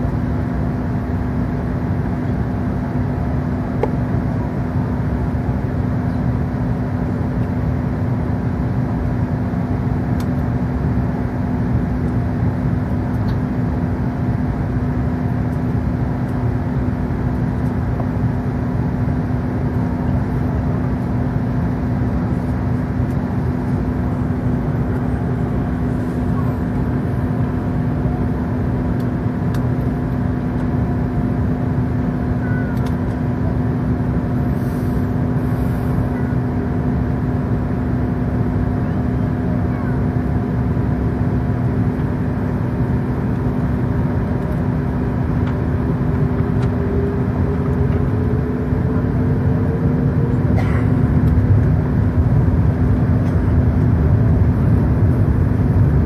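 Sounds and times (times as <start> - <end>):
jet engines humming and whining: 0.0 - 56.0.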